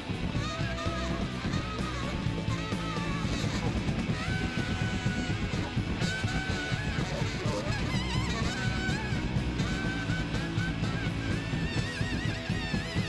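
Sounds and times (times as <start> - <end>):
rock band playing: 0.0 - 13.0
saxophone long high notes: 0.0 - 13.0.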